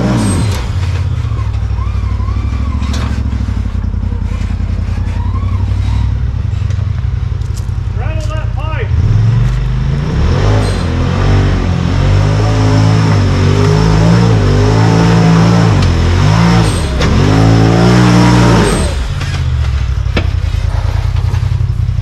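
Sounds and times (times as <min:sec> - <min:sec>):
utv engine revving unevenly: 0:00.0 - 0:07.9, 0:08.9 - 0:22.0.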